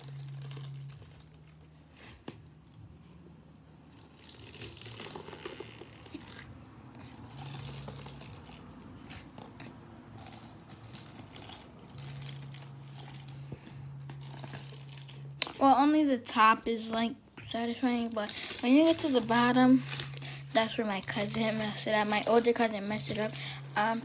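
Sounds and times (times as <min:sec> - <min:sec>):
slime crust crackling: 0:00.0 - 0:02.1, 0:03.9 - 0:24.0.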